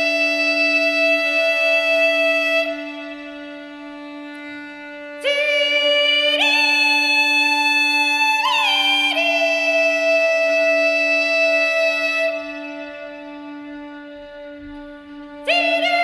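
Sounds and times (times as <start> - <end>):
bagpipe music: 0.0 - 16.0.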